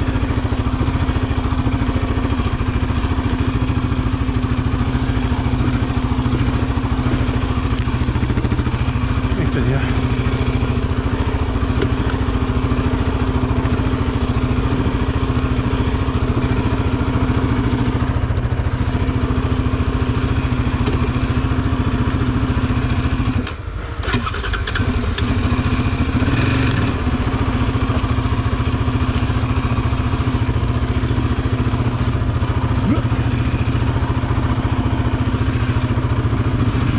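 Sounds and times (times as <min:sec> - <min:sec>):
quad engine running under load: 0:00.0 - 0:36.9.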